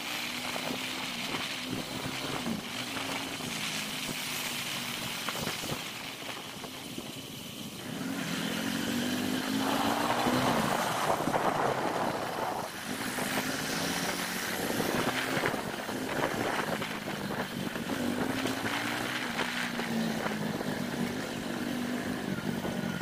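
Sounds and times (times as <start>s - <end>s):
motorcycle engine revving: 0.0s - 23.0s
wind and road noise: 0.0s - 23.0s.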